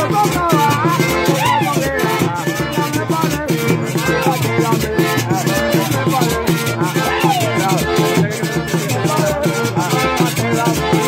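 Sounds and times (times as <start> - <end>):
accordion melody: 0.0 - 11.0.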